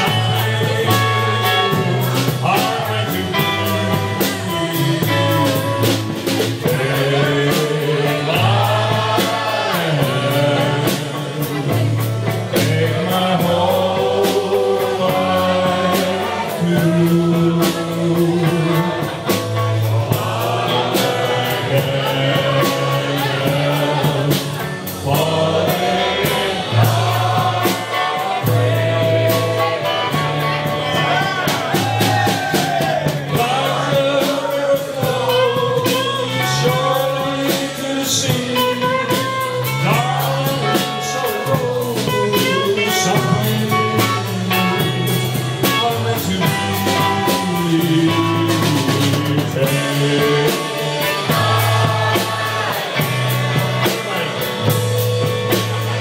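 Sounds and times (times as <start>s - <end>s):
drums keeping a beat: 0.0s - 56.0s
electric guitar: 0.0s - 56.0s
man singing: 0.0s - 56.0s
walking bass line: 0.0s - 56.0s.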